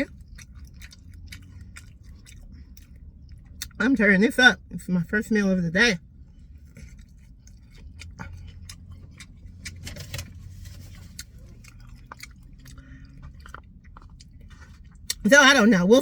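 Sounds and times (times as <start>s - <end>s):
close chewing: 0.0s - 3.8s, 6.0s - 16.0s.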